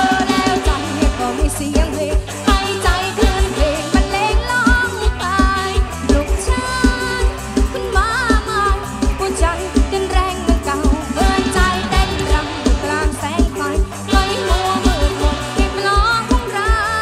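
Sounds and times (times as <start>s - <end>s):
live band playing folk-pop: 0.0s - 17.0s
woman singing with vibrato: 0.0s - 17.0s.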